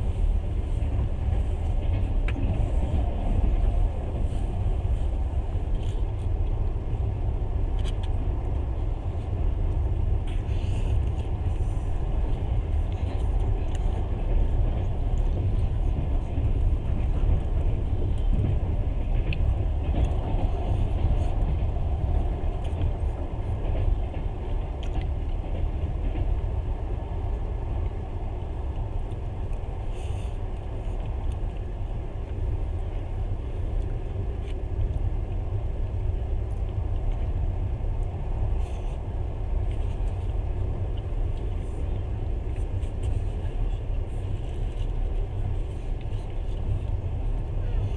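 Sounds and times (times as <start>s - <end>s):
train rumbling inside carriage: 0.0s - 47.9s.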